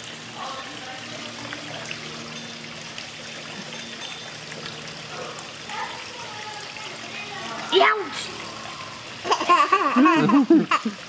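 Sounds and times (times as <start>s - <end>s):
small waterfall over rocks: 0.0s - 11.0s.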